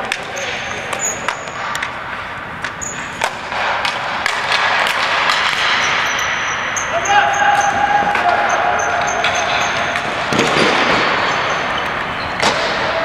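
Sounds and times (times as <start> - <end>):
sticks and ball clacking: 0.0 - 13.0.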